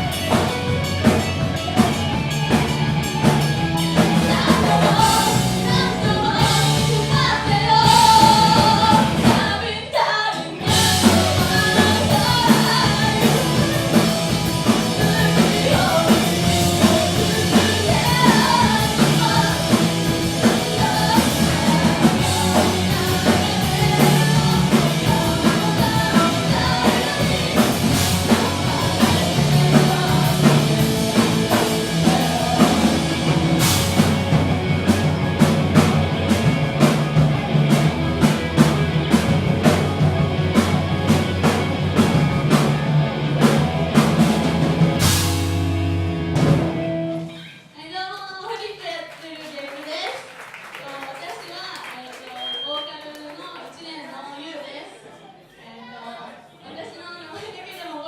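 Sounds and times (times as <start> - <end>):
rock music with singing: 0.0 - 48.0.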